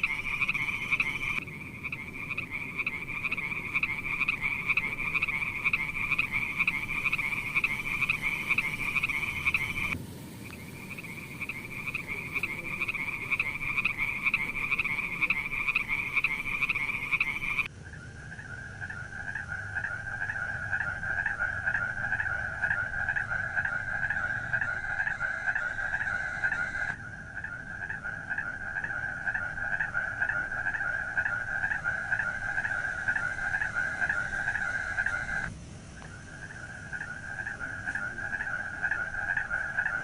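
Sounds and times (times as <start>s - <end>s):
frog croaking rapidly: 0.0s - 40.0s
higher-pitched frog call: 0.0s - 40.0s.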